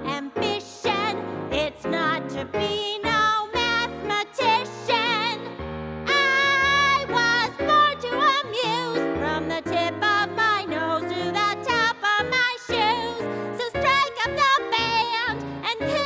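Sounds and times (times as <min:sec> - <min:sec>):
instrumental melody with vibrato: 0:00.0 - 0:16.0.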